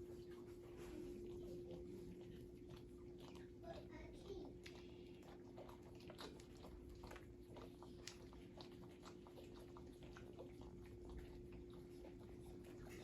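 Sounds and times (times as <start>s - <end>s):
puppies suckling wet clicks: 0.0s - 13.0s.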